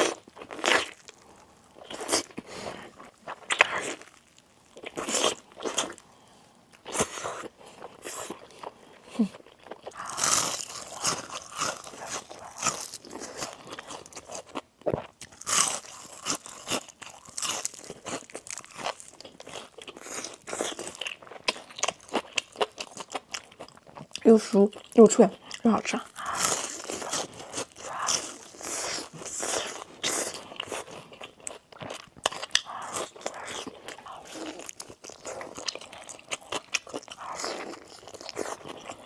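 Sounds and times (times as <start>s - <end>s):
crunchy chewing: 0.0s - 6.1s, 6.7s - 39.0s.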